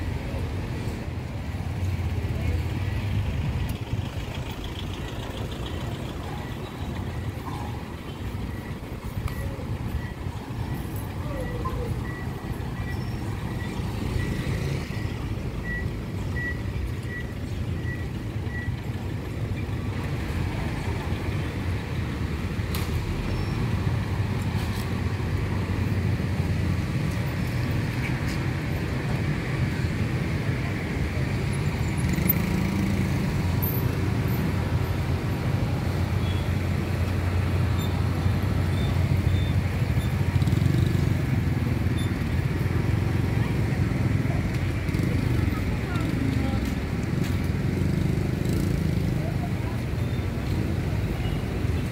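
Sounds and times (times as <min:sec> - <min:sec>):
car and motorcycle engines passing: 0:00.0 - 0:51.9.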